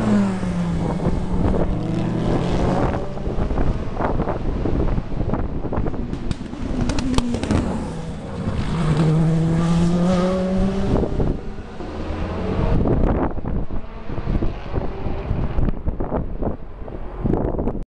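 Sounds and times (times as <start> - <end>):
race car engine passing: 0.0 - 17.5
wind buffeting on microphone: 0.0 - 17.8.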